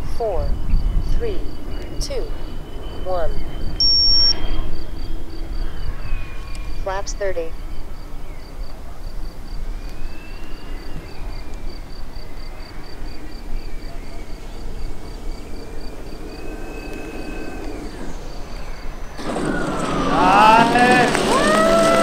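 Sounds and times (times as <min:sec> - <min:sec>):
electric ducted fans whining: 0:00.0 - 0:07.6, 0:09.6 - 0:22.0.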